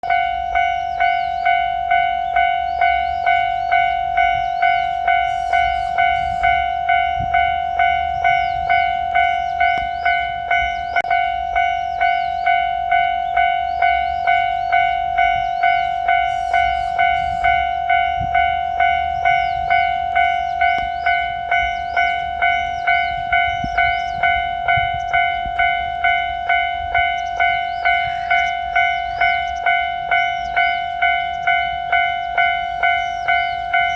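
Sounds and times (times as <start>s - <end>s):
level crossing bell ringing: 0.0s - 33.9s.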